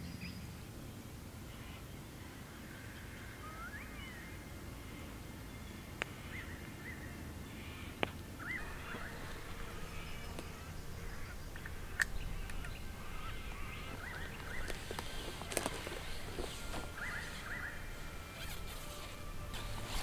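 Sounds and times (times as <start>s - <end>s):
low steady background: 0.0s - 20.0s
wild birds chirping: 0.0s - 20.0s.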